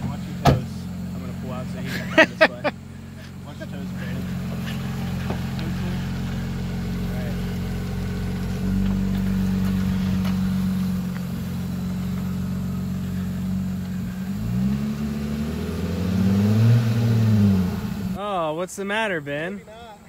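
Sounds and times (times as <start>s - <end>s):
car engine idling and revving: 0.0s - 18.2s.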